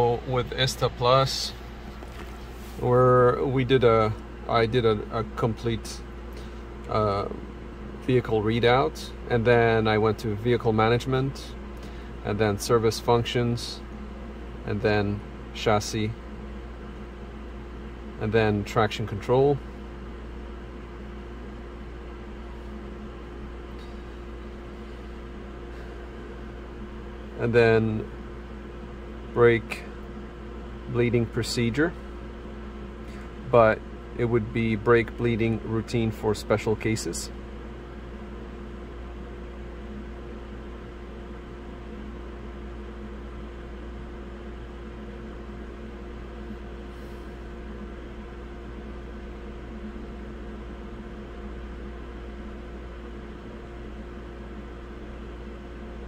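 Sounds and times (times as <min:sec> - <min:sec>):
constant mid-pitched tone: 0:00.0 - 0:56.0
low machine hum: 0:00.0 - 0:56.0.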